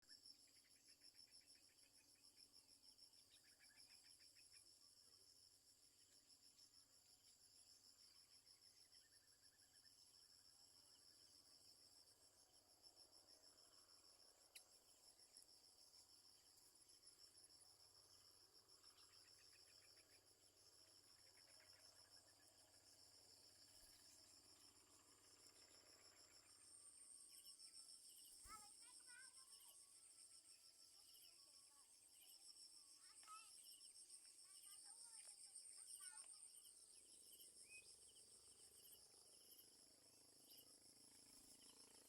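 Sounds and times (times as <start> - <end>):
high-pitched insect trill: 0.2 - 42.0.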